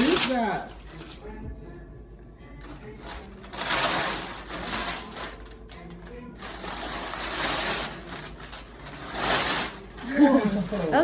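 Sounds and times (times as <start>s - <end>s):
paper tearing: 0.0s - 1.3s, 2.7s - 11.0s.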